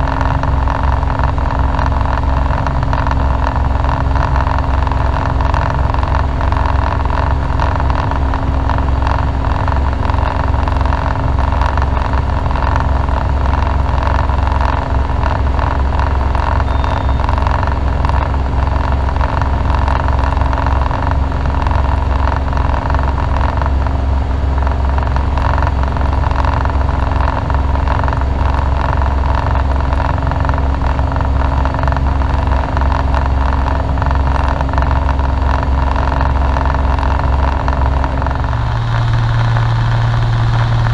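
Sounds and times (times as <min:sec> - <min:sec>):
light aircraft engine and propeller drone: 0:00.0 - 0:40.9.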